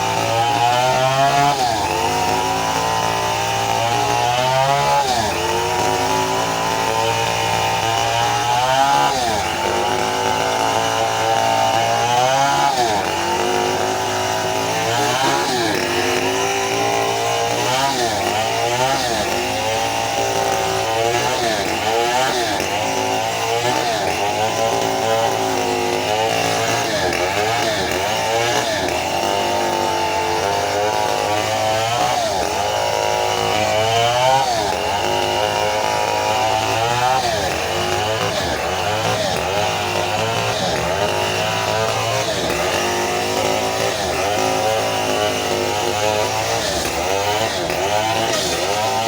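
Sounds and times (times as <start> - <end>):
chainsaw cutting log: 0.0 - 49.0.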